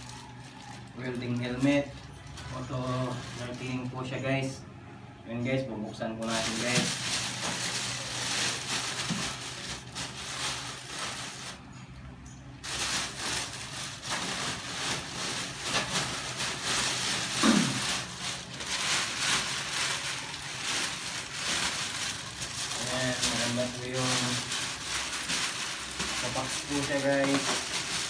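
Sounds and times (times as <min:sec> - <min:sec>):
plastic bag crinkling: 0:00.0 - 0:04.2, 0:06.2 - 0:11.8, 0:12.6 - 0:28.0.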